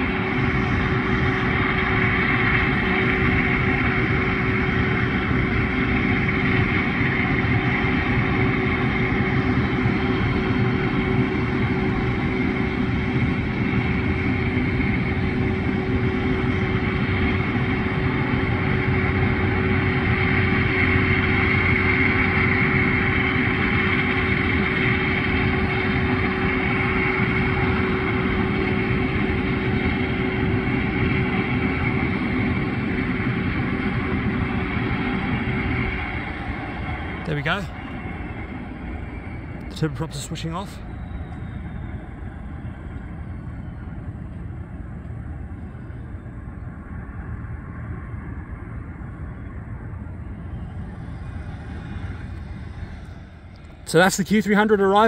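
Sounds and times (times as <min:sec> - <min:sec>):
aircraft engines idling: 0:00.0 - 0:55.0.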